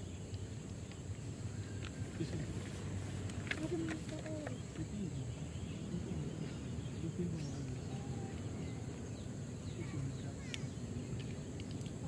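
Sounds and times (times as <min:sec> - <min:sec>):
birds chirping: 0:00.0 - 0:12.0
distant murmured voices: 0:00.0 - 0:12.0.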